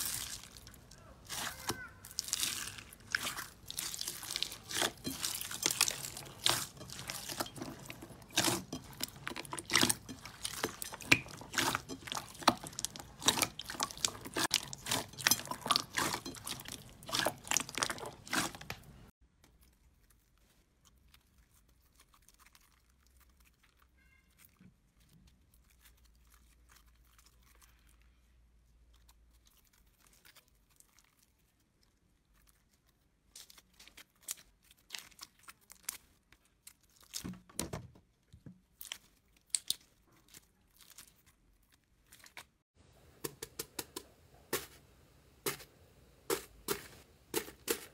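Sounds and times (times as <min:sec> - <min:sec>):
slime crackling and popping: 0:00.0 - 0:28.0, 0:28.8 - 0:37.3, 0:38.6 - 0:42.6.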